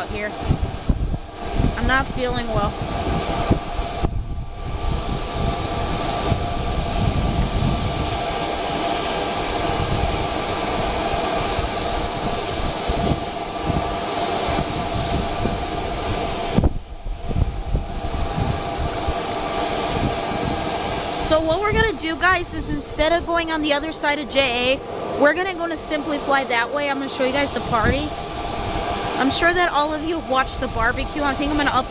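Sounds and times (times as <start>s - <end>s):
jet engine whine and hiss: 0.0s - 31.9s
wind rumbling on microphone: 0.0s - 31.9s.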